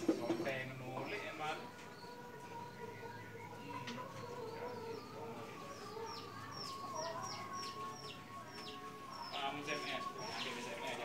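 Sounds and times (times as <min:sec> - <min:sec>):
birds peeping: 0:00.0 - 0:11.0.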